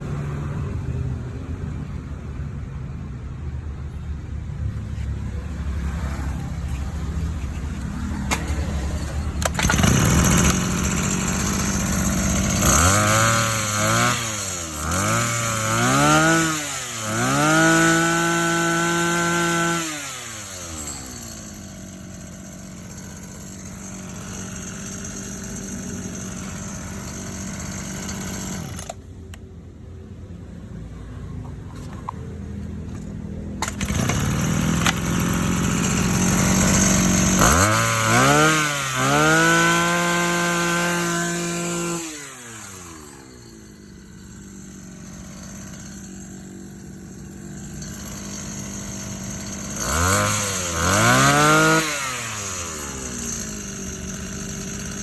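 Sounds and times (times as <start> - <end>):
brush cutter engine revving: 4.9 - 29.0, 32.8 - 55.0.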